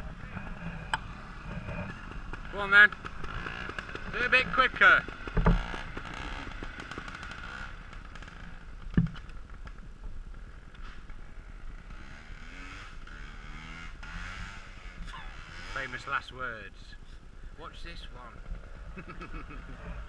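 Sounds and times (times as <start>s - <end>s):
motorcycle engine revving: 0.0s - 16.6s, 18.3s - 20.0s.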